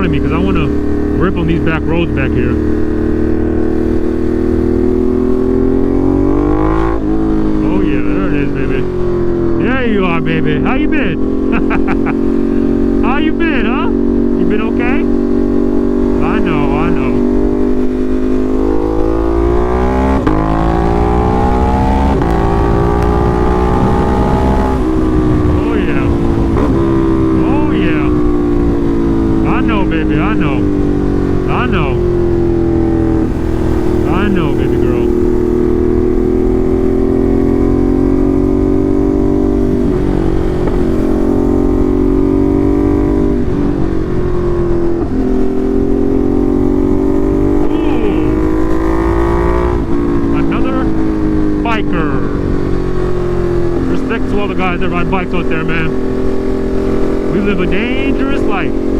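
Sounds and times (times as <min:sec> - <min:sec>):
motorcycle engine accelerating hard: 0:00.0 - 0:58.9.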